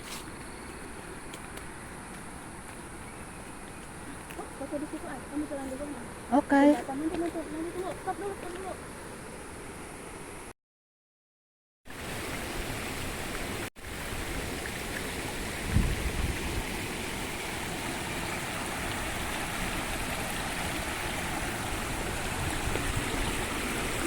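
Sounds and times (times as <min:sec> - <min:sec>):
stream and waterfall rushing: 0:00.0 - 0:10.5, 0:11.9 - 0:24.0.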